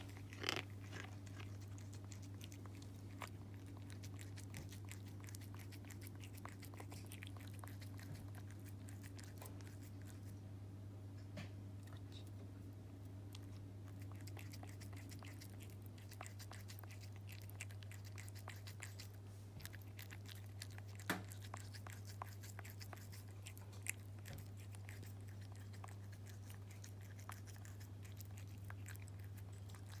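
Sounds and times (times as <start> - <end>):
cat chewing food: 0.0 - 10.6, 11.2 - 30.0.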